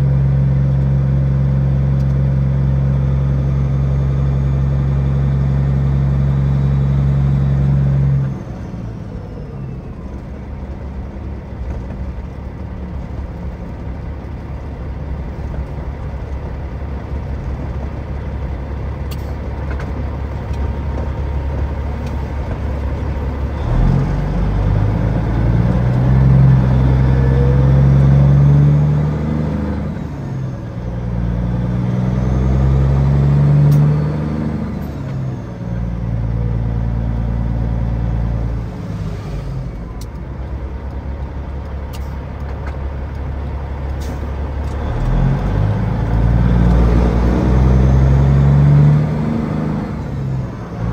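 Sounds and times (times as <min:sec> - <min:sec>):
diesel truck engine revving: 0:00.0 - 0:50.9.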